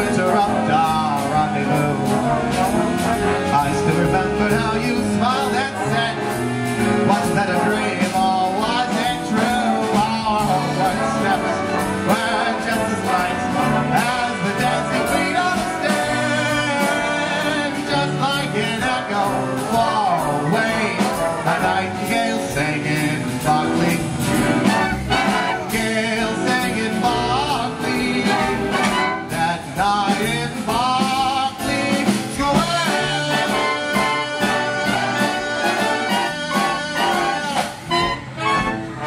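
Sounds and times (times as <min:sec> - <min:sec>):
big band playing a slow ballad: 0:00.0 - 0:39.0.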